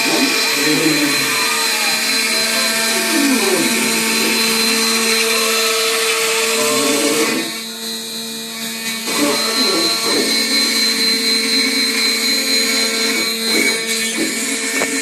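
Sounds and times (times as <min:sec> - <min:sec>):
router spindle whine: 0:00.0 - 0:15.0
stepper motors changing pitch: 0:00.0 - 0:15.0.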